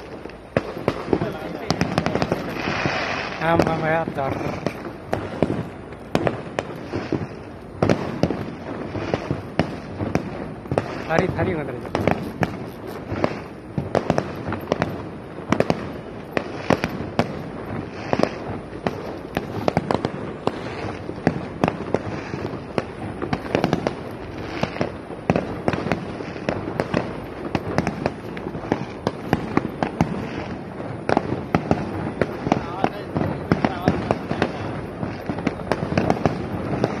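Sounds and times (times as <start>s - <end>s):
fireworks and firecrackers banging: 0.0s - 37.0s.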